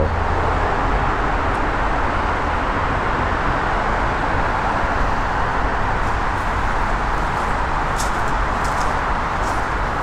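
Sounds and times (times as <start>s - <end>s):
highway traffic tyre rush: 0.0s - 10.0s.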